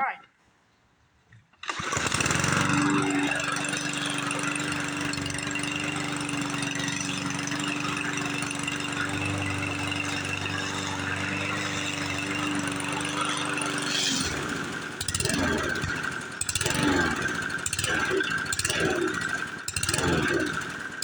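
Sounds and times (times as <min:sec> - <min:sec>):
lawn mower engines humming: 0:01.6 - 0:21.0.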